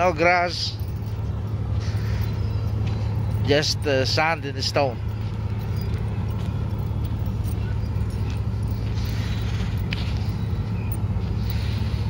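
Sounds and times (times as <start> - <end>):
footsteps on sand and stone: 0.0 - 12.0.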